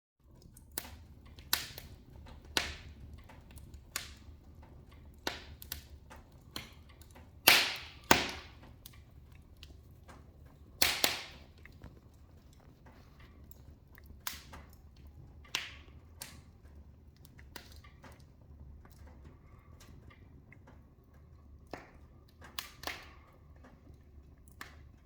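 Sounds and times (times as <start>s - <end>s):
wood fire crackling: 0.2s - 25.0s.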